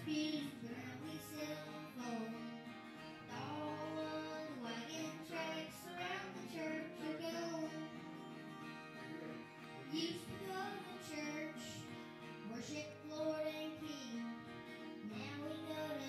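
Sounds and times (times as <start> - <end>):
boy singing: 0.0 - 2.5, 3.3 - 8.2, 9.8 - 14.3, 15.0 - 16.0
acoustic guitar: 0.0 - 16.0.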